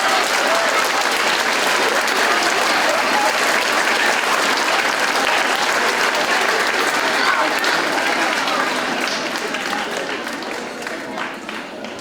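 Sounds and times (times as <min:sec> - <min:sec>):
cheers and voices: 0:00.0 - 0:11.5
children clapping: 0:00.0 - 0:12.0.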